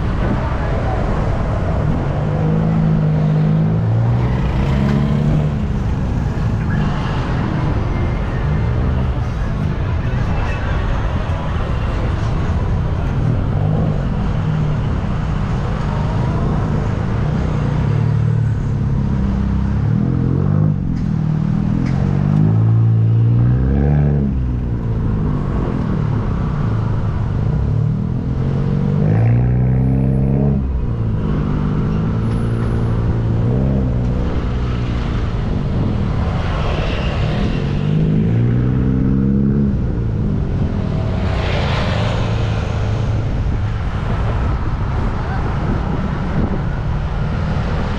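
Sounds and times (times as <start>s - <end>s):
low traffic rumble: 0.0s - 47.9s
vehicle engines passing: 0.0s - 47.9s.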